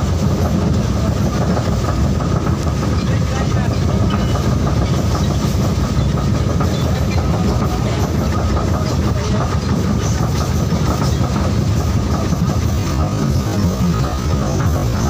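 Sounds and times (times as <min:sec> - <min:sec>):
train carriage rumble: 0:00.0 - 0:15.0.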